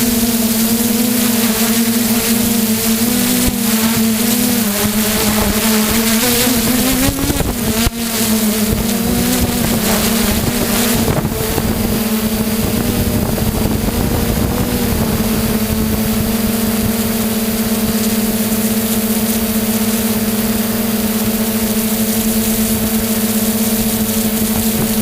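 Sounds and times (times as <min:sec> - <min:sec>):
wind noise on microphone: 0:00.0 - 0:18.4, 0:20.4 - 0:25.0
drone propellers buzzing: 0:00.0 - 0:25.0.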